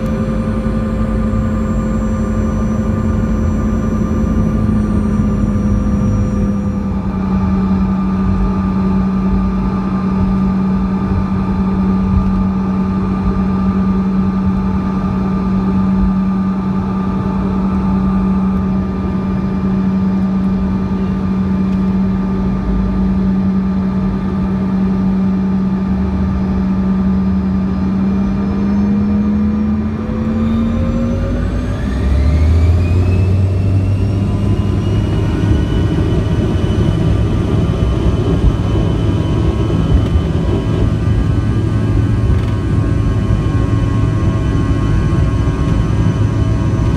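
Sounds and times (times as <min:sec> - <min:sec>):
jet engine whine: 0:00.0 - 0:46.9.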